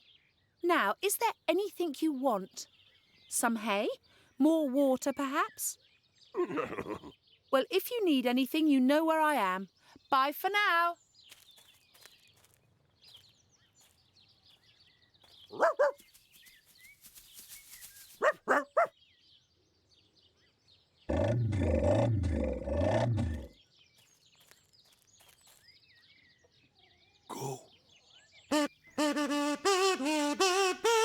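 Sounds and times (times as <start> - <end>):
faint birdsong: 0.0 - 29.4.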